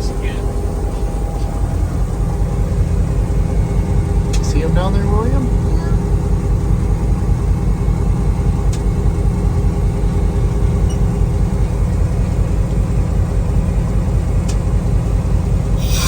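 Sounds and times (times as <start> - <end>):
diesel locomotive engine idling: 0.0 - 16.0.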